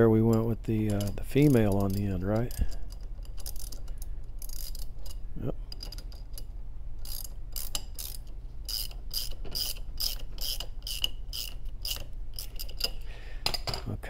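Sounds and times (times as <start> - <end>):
wrench clicking on metal fitting: 0.3 - 13.7.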